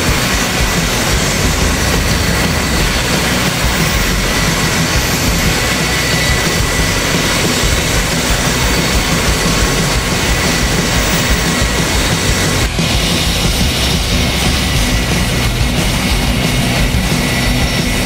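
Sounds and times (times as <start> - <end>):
rotor blades throbbing: 0.0 - 18.0
turbine whine: 0.0 - 18.0.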